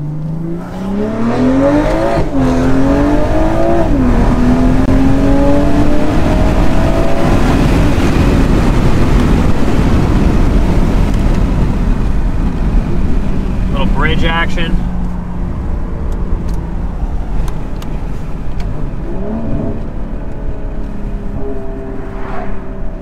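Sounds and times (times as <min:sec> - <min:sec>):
car engine accelerating hard: 0:00.0 - 0:23.0
wind noise: 0:00.4 - 0:23.0.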